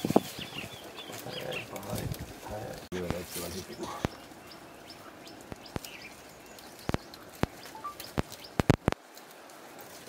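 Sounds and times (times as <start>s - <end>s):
birds chirping faintly: 0.0s - 9.8s
elephant snapping twigs and branches: 0.0s - 10.0s.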